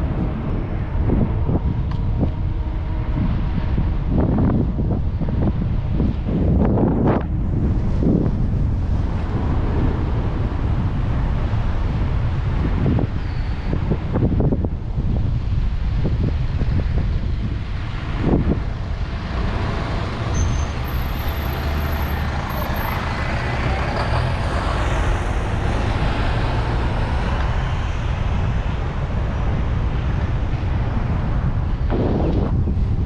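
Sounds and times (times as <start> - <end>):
large road vehicle passing: 0.0 - 14.5, 17.3 - 33.0
wind rushing over microphone: 0.0 - 33.0.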